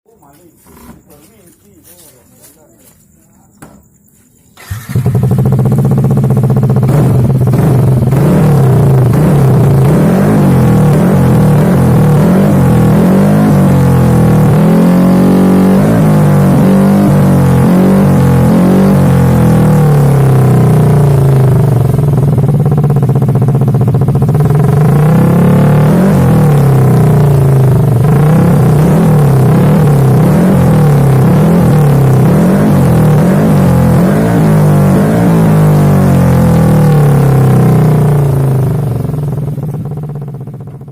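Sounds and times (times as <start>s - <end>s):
scooter engine revving: 4.5s - 40.9s.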